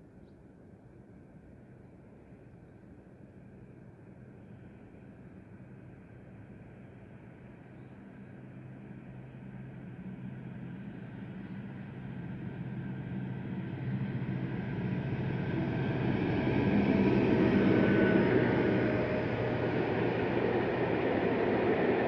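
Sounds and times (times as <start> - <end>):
diesel locomotive engine drone: 0.5 - 22.0.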